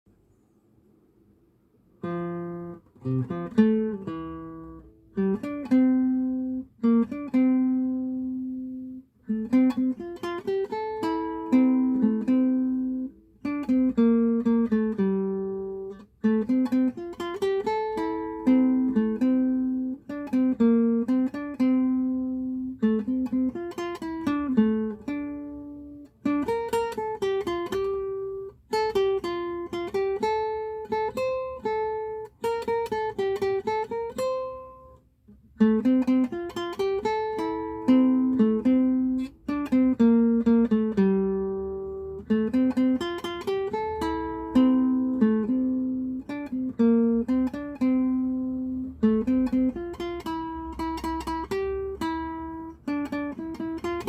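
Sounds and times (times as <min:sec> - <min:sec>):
acoustic guitar melody: 0:02.0 - 0:54.0.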